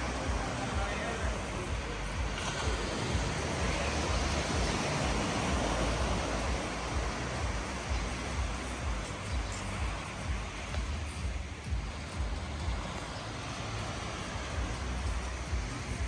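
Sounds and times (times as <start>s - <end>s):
sea surf washing onto beach: 0.0s - 16.0s
wind rumbling on microphone: 0.0s - 16.0s.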